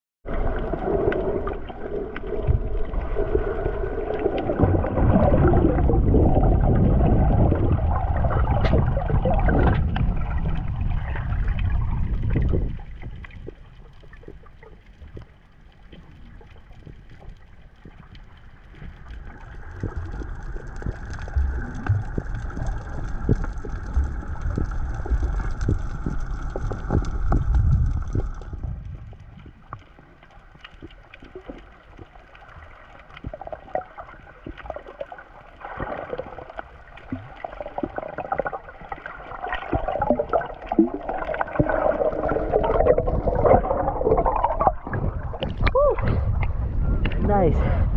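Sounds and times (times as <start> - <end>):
underwater water movement: 0.2 - 47.9
gurgling bubbles: 0.3 - 47.9.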